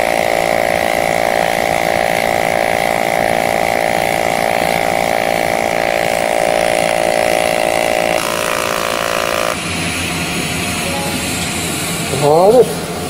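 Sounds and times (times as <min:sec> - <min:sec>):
welding arc buzzing hum: 0:00.0 - 0:13.0.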